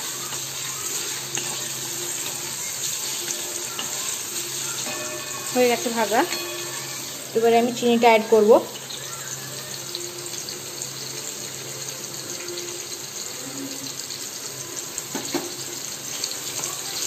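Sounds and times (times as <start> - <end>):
grapes frying in hot oil: 0.0 - 17.0.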